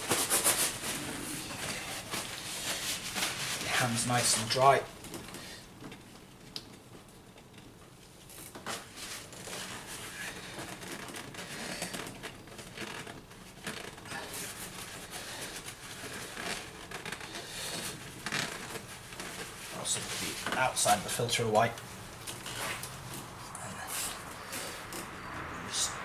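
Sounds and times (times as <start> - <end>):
paper towel rustling: 0.0 - 5.0, 8.6 - 24.8.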